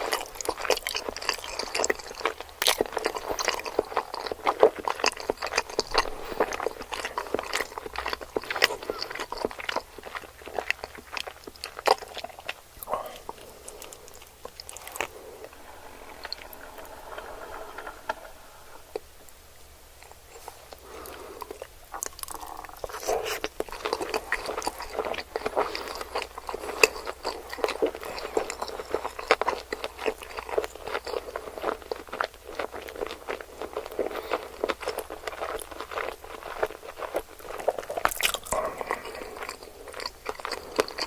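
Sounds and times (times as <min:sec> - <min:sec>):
person chewing food: 0:00.0 - 0:19.0, 0:20.4 - 0:41.0.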